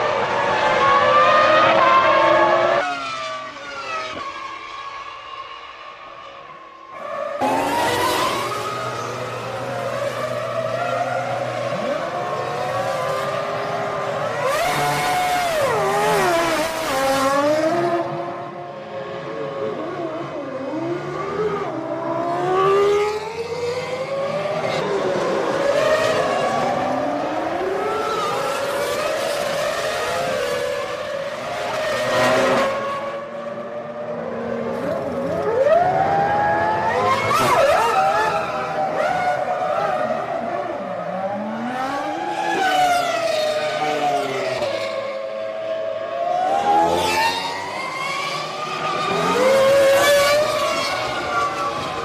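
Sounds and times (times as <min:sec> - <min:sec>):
racing car engines at high revs: 0:06.9 - 0:52.0.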